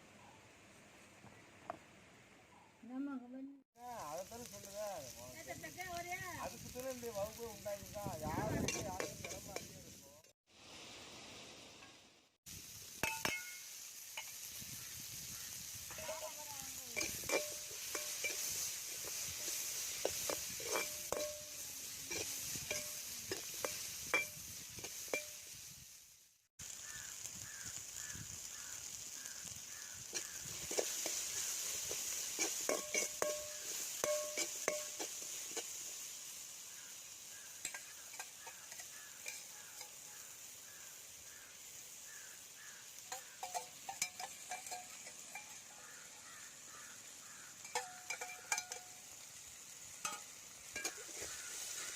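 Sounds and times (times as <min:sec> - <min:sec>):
food sizzling in a pan: 0:03.7 - 0:51.9.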